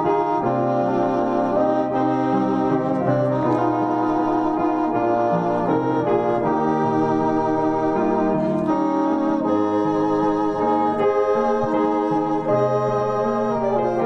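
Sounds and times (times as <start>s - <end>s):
hymn on electronic horn: 0.0s - 14.0s.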